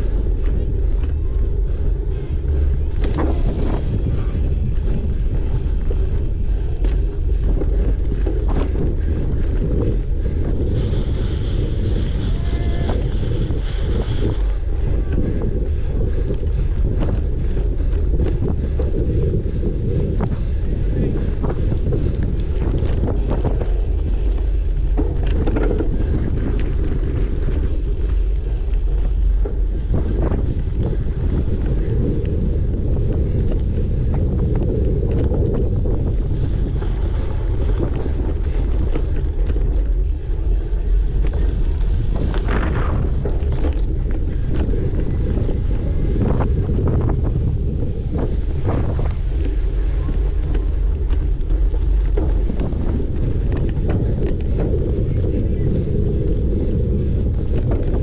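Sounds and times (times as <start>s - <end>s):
bike clicks and knocks: 0.0s - 10.6s, 12.9s - 58.0s
wind rumble on microphone: 0.0s - 58.0s.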